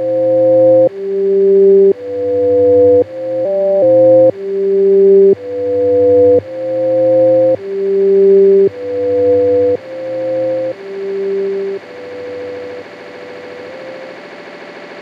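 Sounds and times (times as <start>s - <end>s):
ambient music held chords: 0.0s - 14.5s.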